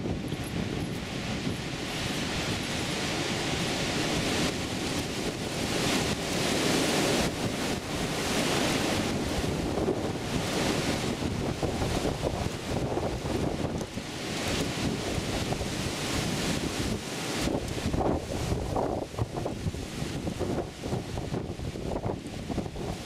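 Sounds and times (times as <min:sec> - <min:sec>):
wind buffeting microphone: 0:00.0 - 0:23.0
wind rushing through shrubs: 0:00.0 - 0:23.0.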